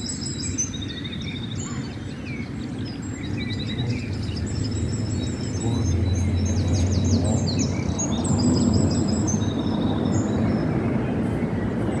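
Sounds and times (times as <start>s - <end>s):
small birds singing: 0.0s - 12.0s
steady low rumbling: 1.9s - 12.0s.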